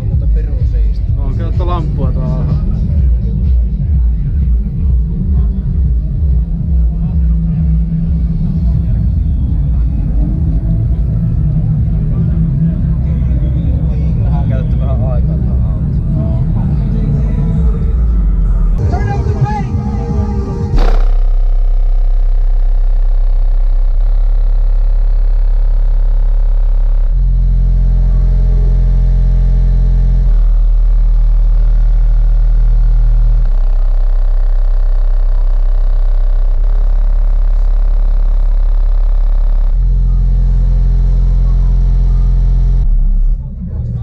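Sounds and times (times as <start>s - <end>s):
loud deep bass from car audio: 0.0s - 44.0s.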